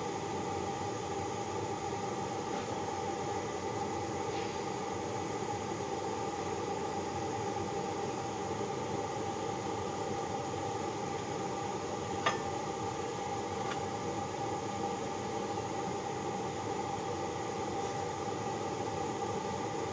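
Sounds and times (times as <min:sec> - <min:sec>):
droning shop equipment hiss: 0:00.0 - 0:19.9.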